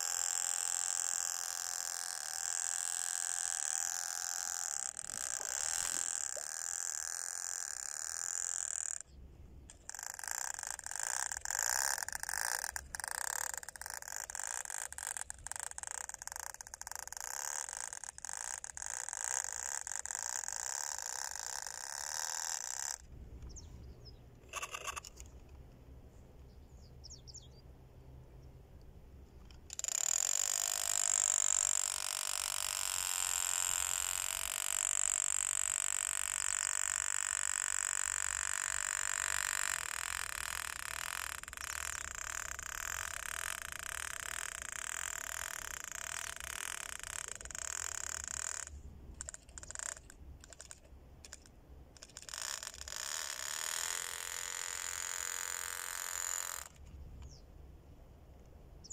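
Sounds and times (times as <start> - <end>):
toy outboard motor whining: 0.0 - 23.1, 24.4 - 25.4, 29.4 - 56.9.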